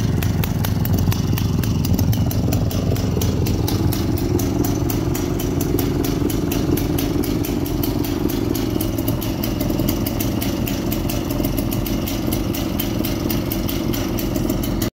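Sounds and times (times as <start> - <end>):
chainsaw engine idling: 0.0 - 14.9.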